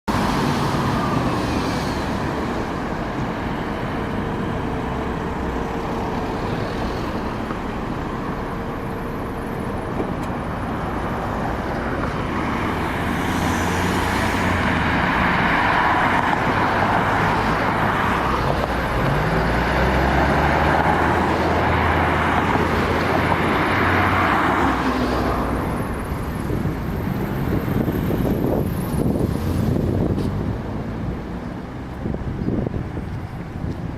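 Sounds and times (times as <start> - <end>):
road noise: 0.0 - 33.9
vehicles passing: 0.1 - 33.9.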